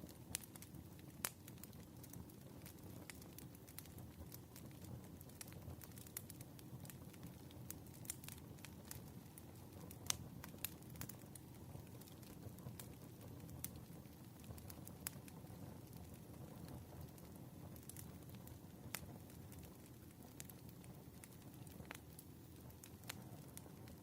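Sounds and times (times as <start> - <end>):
low fire rumble: 0.0 - 24.0
wood fire crackling and popping: 0.0 - 24.0.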